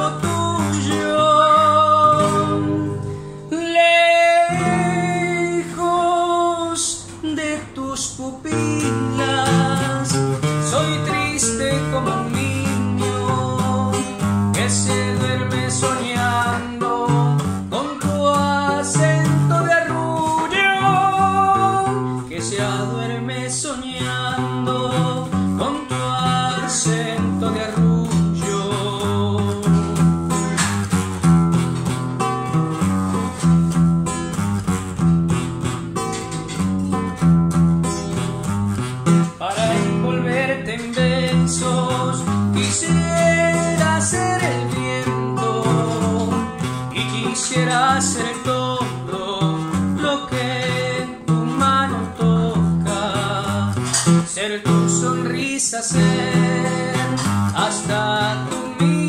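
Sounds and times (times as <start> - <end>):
man singing: 0.0 - 30.9, 36.0 - 59.0
nylon-string guitar: 0.0 - 59.0.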